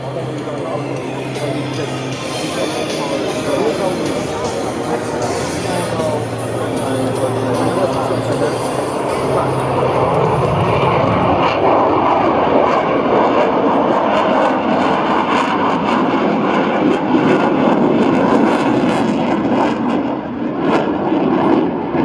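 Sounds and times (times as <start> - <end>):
fighter jet flying: 0.0 - 22.0.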